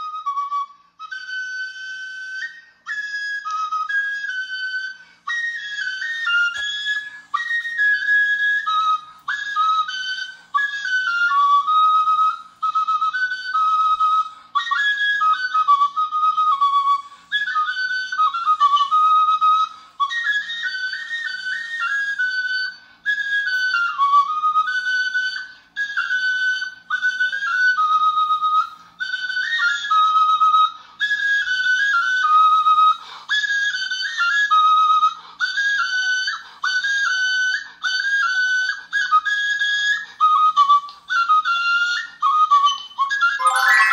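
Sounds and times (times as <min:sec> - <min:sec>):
high whistle-like melody: 0:00.0 - 0:43.9.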